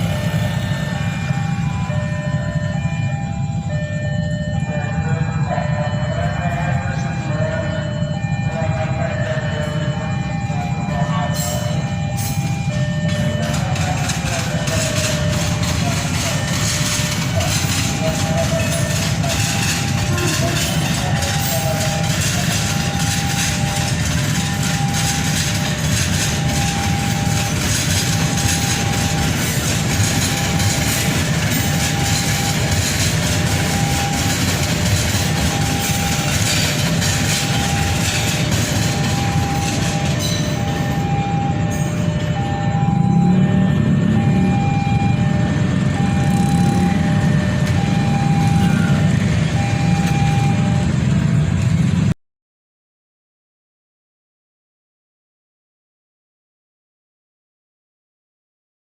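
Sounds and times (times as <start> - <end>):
train passing with rail noise: 0.0 - 52.1.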